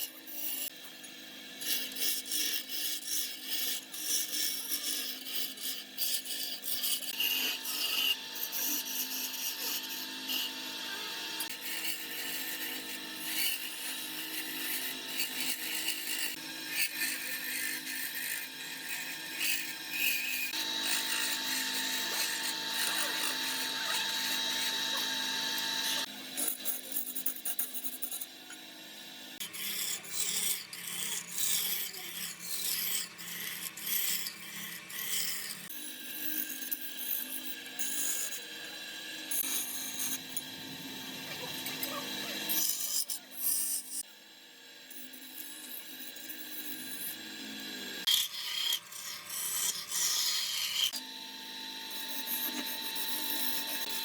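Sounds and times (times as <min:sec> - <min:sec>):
tool scraping spinning wood: 0:00.0 - 0:44.1, 0:44.9 - 0:51.2, 0:51.8 - 0:54.0.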